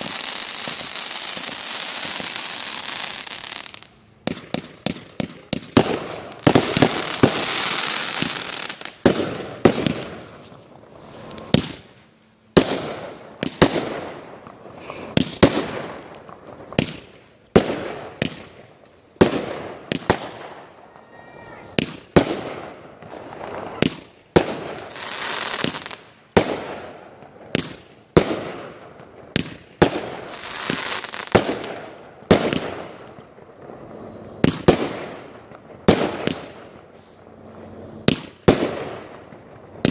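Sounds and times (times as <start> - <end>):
firework bangs: 0.0 - 39.9
firework crackling: 0.0 - 39.9.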